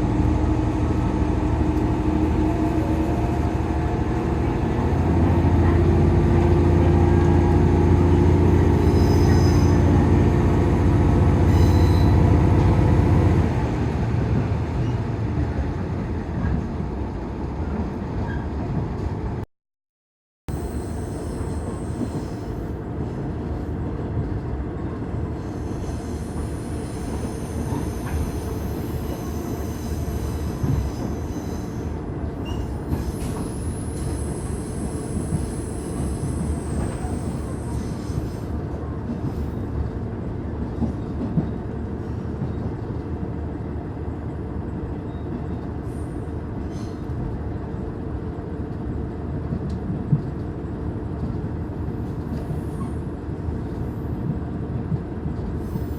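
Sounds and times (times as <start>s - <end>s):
train wheels rumbling on rail: 0.0s - 19.4s, 20.7s - 55.9s.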